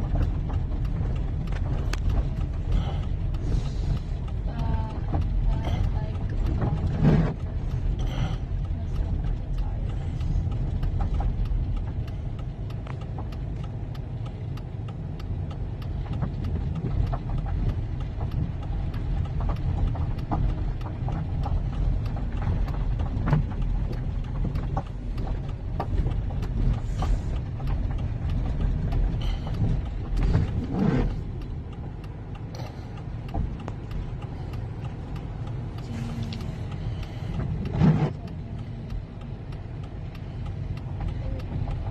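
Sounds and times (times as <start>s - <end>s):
van driving low rumble: 0.0s - 41.9s.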